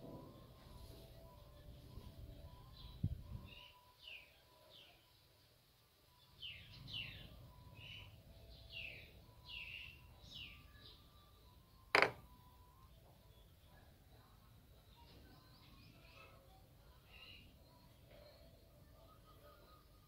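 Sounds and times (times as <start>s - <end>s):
birds chirping faintly: 0.3s - 20.0s.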